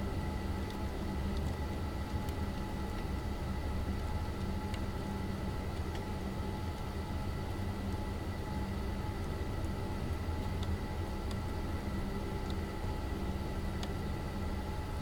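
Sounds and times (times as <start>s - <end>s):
faint steady hum tones: 0.0s - 15.0s.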